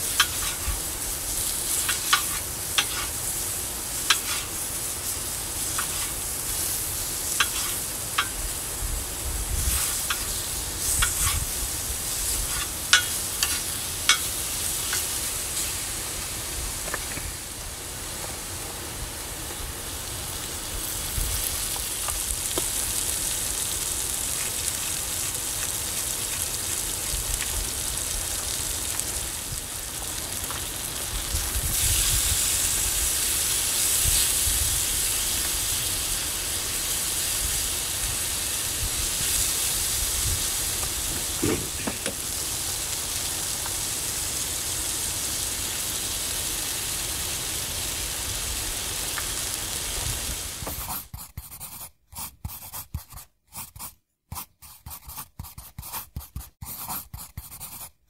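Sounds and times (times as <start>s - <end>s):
potatoes and meat sizzling: 0.0s - 51.1s.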